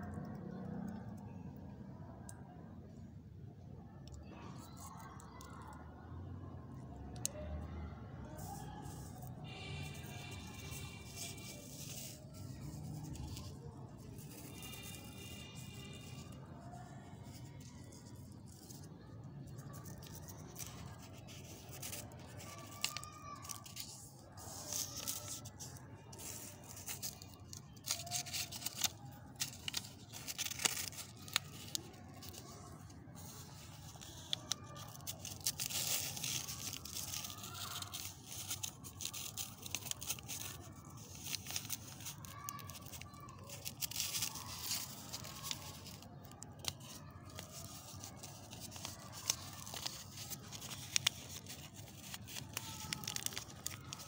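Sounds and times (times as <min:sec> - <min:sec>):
paper rustling and crinkling: 0:08.4 - 0:54.0.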